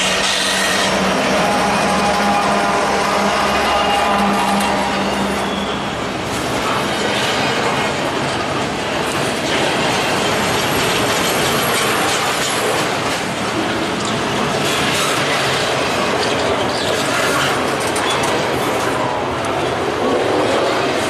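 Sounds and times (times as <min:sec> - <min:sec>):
diesel locomotive hum: 0:00.0 - 0:16.9
freight train wheels rumbling: 0:00.0 - 0:21.0.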